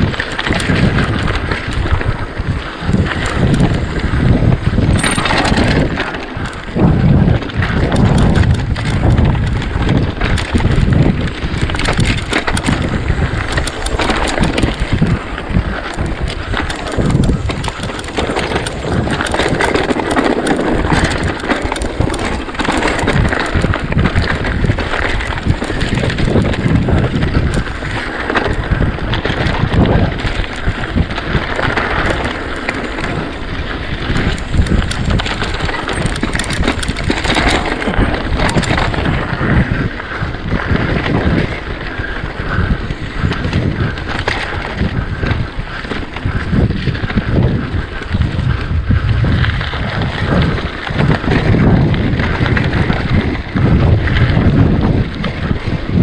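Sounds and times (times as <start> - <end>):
bike rattling: 0.0 - 56.0
bike tyres rumbling over stones: 0.0 - 56.0
wind buffeting microphone: 0.0 - 56.0.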